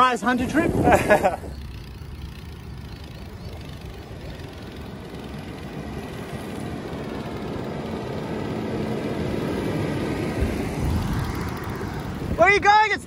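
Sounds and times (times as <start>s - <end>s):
bicycle road rumble: 0.0s - 13.0s
wind rushing over microphone: 0.0s - 13.0s.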